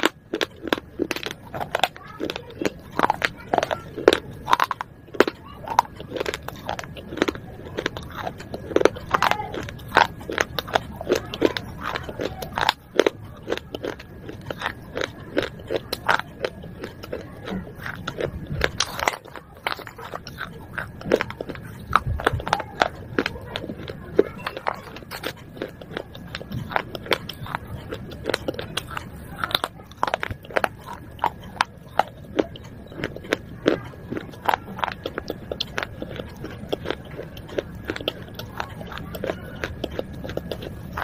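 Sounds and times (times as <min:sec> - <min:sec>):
clay shards being chewed: 0:00.0 - 0:41.0.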